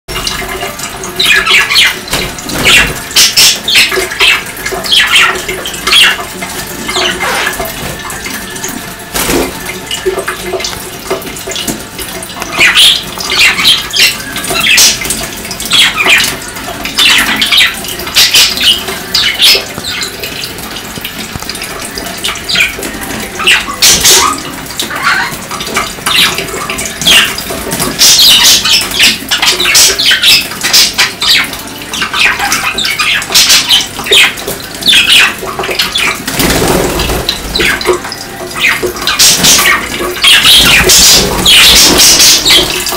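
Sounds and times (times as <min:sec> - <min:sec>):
water splashing: 0:00.1 - 0:42.9.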